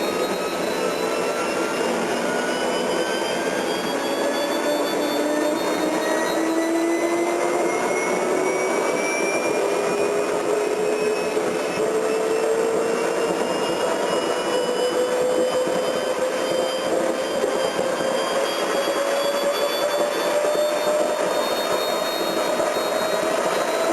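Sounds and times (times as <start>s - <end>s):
jet engine spooling up: 0.0s - 23.9s.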